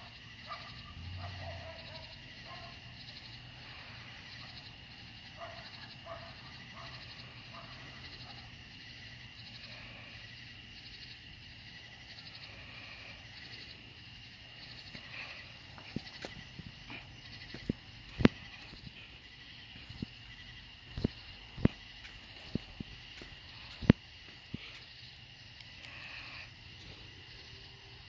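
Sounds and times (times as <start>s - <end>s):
insects chirping: 0.0s - 28.0s
steady high insect trill: 0.0s - 28.0s.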